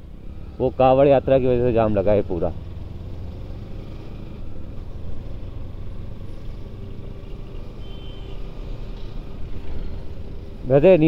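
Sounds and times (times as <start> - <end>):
motorcycle engine low rumble: 0.0 - 11.0
surrounding traffic: 0.0 - 11.0.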